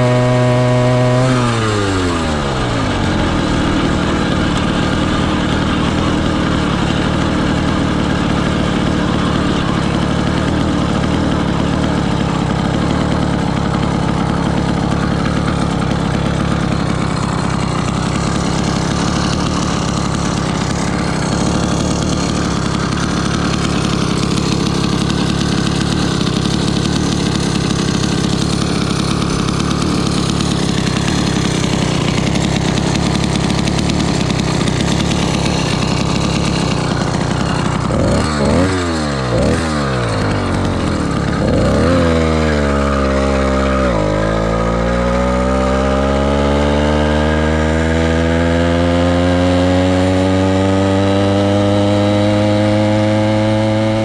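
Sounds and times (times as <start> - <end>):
two-stroke bicycle engine revving: 0.0 - 54.0.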